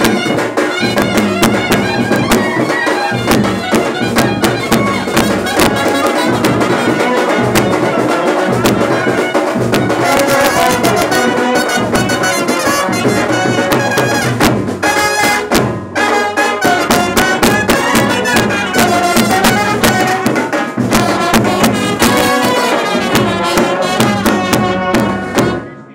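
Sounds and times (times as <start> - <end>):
brass band playing: 0.0 - 25.9
steady drum beat: 0.0 - 25.9.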